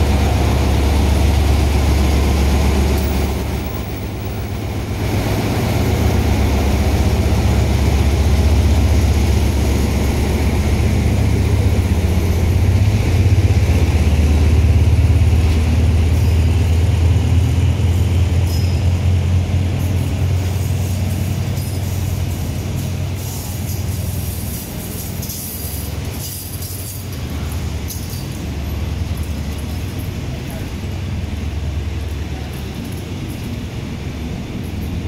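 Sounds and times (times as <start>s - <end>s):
coaches rolling on rails: 0.0s - 35.0s
diesel locomotive engine drone: 0.0s - 35.0s.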